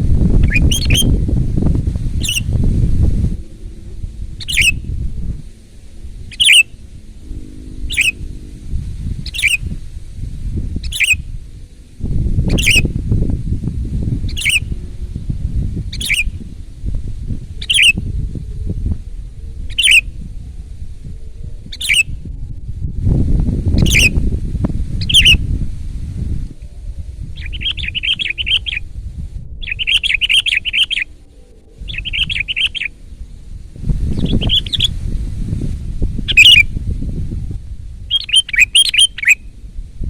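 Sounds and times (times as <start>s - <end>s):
low background rumble: 0.0s - 40.0s.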